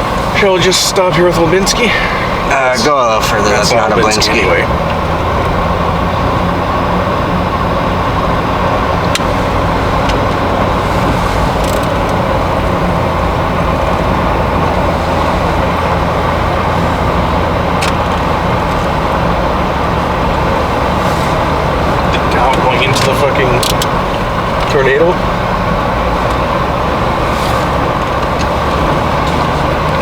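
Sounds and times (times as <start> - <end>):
road and engine noise in cabin: 0.0 - 30.0.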